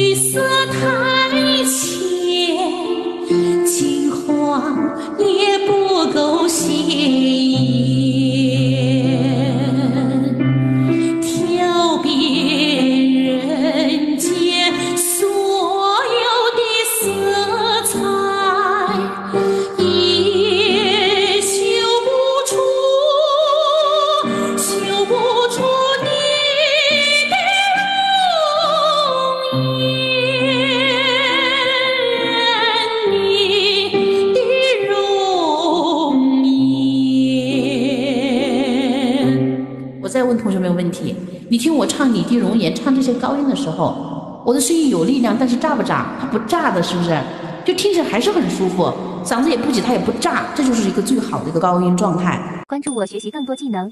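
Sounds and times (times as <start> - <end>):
woman singing pop ballad: 0.0 - 51.4.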